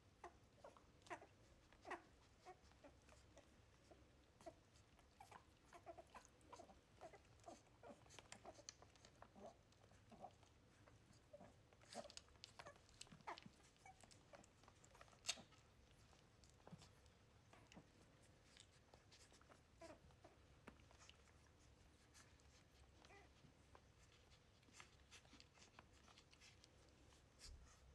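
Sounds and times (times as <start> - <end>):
puppies squeaking and grunting: 0.0 - 27.9.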